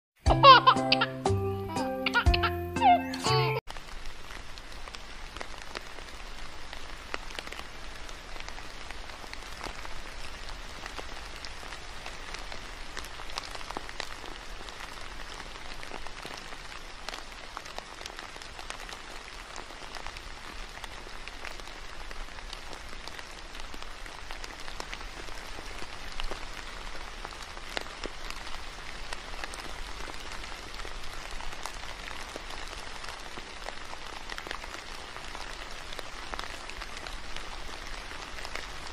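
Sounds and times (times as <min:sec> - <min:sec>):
steady rain falling: 0:03.7 - 0:38.9.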